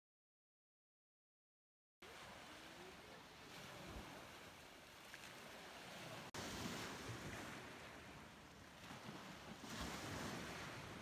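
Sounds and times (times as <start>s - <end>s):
ocean waves washing ashore: 2.0s - 11.0s.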